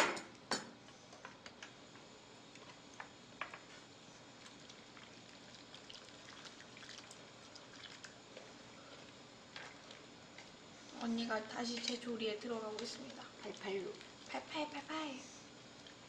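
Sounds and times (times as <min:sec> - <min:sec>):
broth simmering with small pops: 0:00.3 - 0:16.0.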